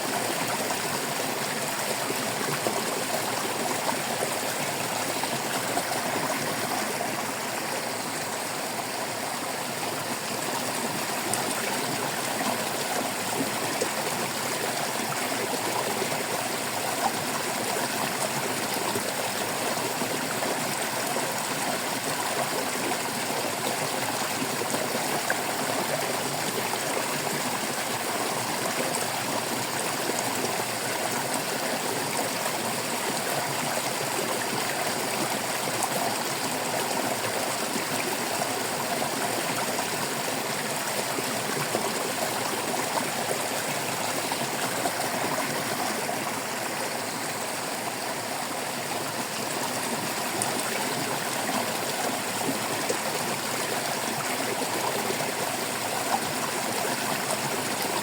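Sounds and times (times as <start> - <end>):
stream water babbling over rocks: 0.0 - 58.0.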